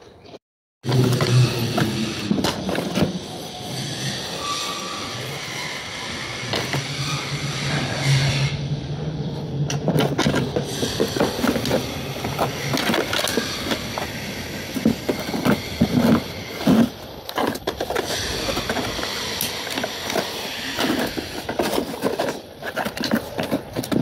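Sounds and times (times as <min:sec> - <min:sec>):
cardboard rustling and scraping: 0:00.8 - 0:08.0, 0:09.7 - 0:24.0
low hum: 0:00.9 - 0:24.0.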